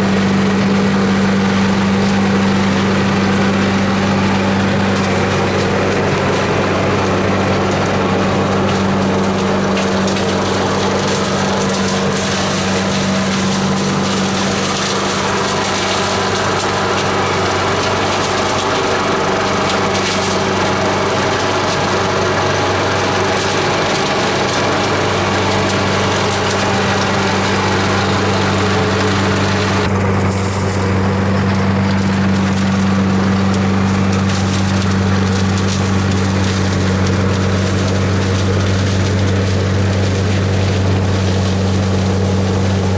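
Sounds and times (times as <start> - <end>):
leaves sucked up rushing: 0.0 - 42.9
vacuum cleaner running: 0.0 - 42.9.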